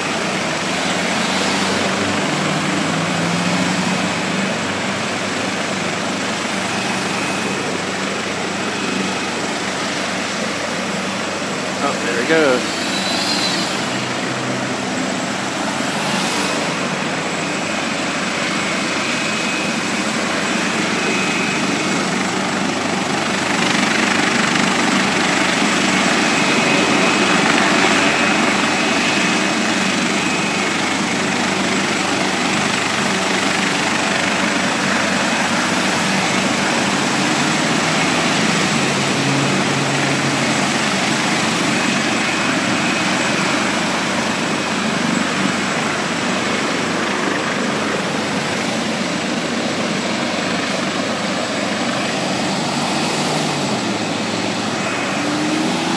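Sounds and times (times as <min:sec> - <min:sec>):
car approaching: 0:00.0 - 0:55.9
faint high whine: 0:00.0 - 0:55.9
helicopter running: 0:00.0 - 0:55.9
highway traffic: 0:00.0 - 0:55.9.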